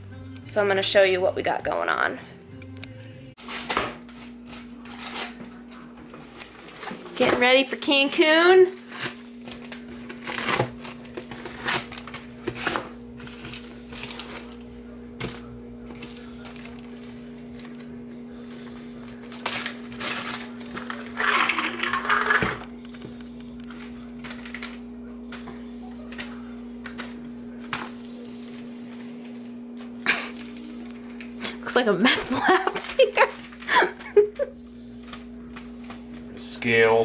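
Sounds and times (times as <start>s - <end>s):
steady low hum: 0.0s - 37.0s
plastic bags rustling: 3.4s - 37.0s.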